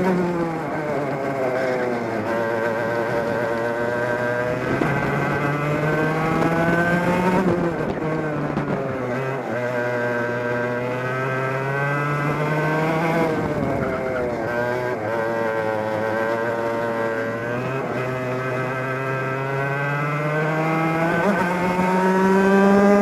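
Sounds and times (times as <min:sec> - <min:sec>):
racing kart engine revving: 0:00.0 - 0:23.0.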